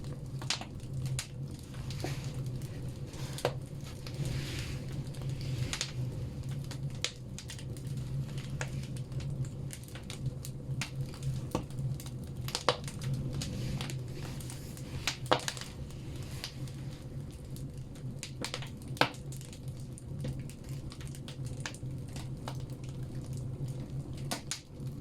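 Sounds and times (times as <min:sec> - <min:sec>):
logs crackling and popping: 0:00.0 - 0:25.0
steady low hum: 0:00.0 - 0:25.0.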